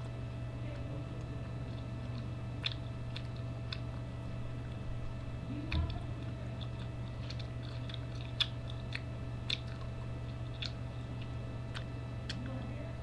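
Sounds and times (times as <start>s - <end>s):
low hum: 0.0s - 13.0s
crunchy clicks: 1.2s - 12.6s
person chewing food: 1.2s - 12.6s.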